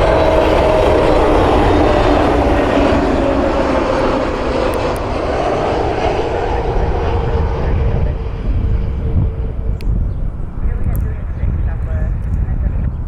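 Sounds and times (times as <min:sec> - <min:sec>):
jet airliner engines roaring: 0:00.0 - 0:13.0.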